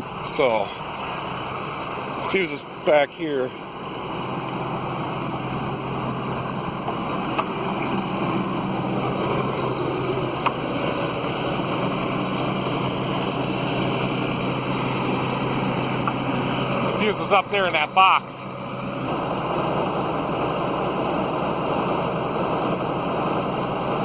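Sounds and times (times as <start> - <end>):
excavator engine droning: 0.0 - 24.0.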